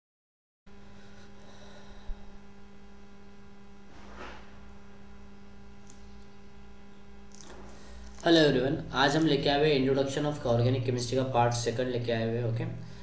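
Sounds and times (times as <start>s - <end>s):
electrical mains hum: 0.7s - 13.0s.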